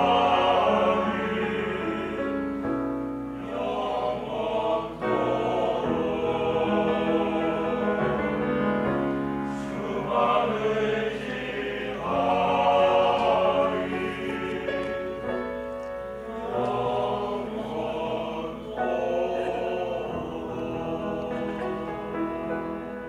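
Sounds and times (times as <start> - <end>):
male choir singing in harmony: 0.0 - 23.0.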